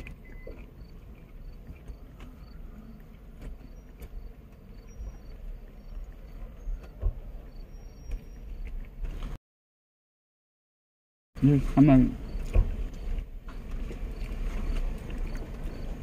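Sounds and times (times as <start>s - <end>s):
truck cab rumble: 0.0s - 9.4s, 11.4s - 16.0s.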